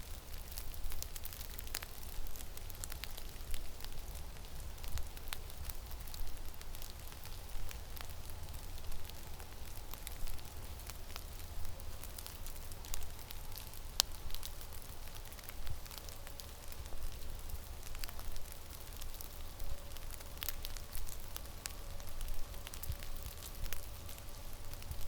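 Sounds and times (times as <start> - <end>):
sharp ticks and crackles: 0.0 - 25.0.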